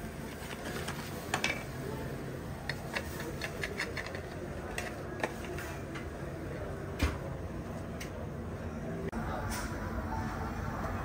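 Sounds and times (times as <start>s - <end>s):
kitchen background noise: 0.0s - 11.0s.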